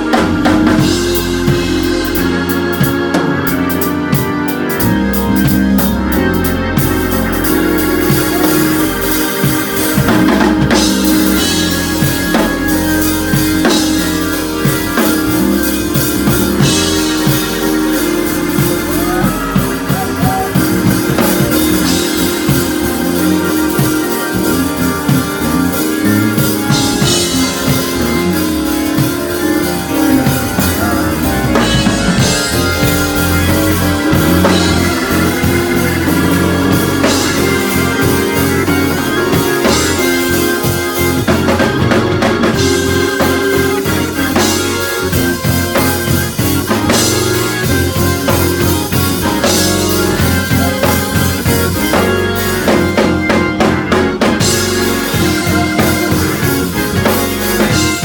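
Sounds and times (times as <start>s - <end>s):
drum kit playing fills: 0.0s - 58.0s
electric bass: 0.0s - 58.0s
organ and keyboard chords: 0.0s - 58.0s.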